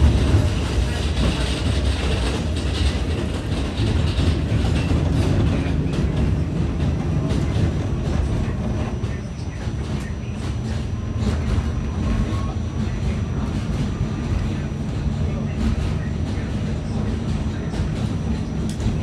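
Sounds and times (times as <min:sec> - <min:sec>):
subway car rumble: 0:00.0 - 0:19.0.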